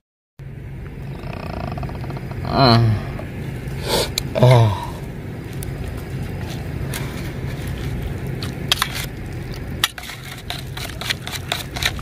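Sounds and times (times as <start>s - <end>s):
low motor-like rumble: 0.4s - 12.0s.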